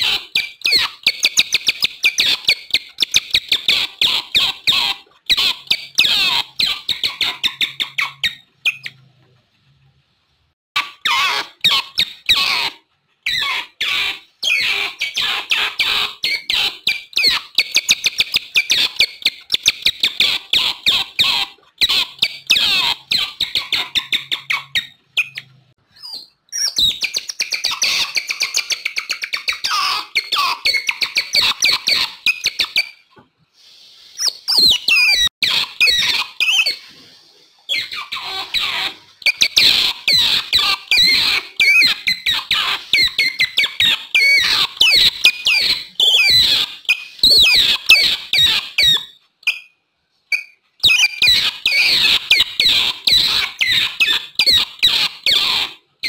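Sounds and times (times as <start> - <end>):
otters chirping and squeaking: 0.0 - 9.4, 10.8 - 56.0.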